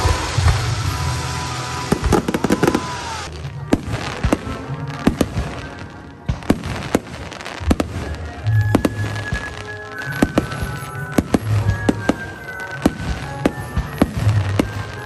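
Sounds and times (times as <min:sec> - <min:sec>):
fireworks shells bursting: 0:00.0 - 0:15.0.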